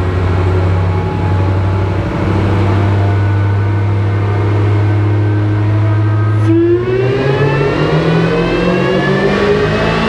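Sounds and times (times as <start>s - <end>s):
car engine revving on dynamometer: 0.0s - 10.0s.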